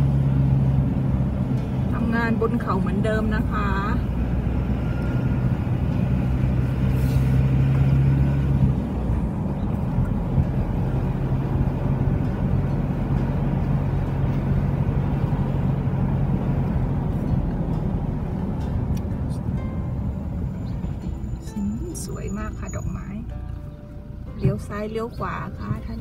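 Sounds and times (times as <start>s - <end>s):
car engine and tyre hum: 0.0s - 26.0s.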